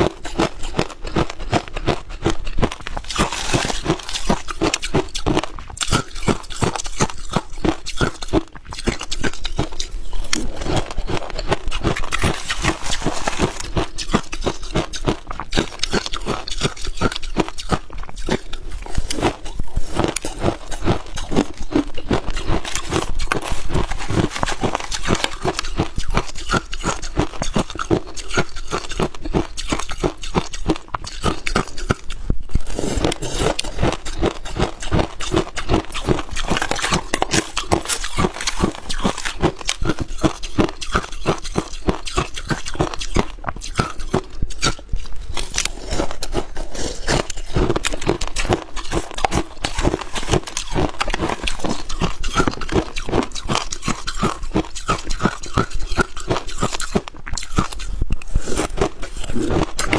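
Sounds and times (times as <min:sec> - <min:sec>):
frost being chewed and crunched: 0:00.0 - 0:59.9.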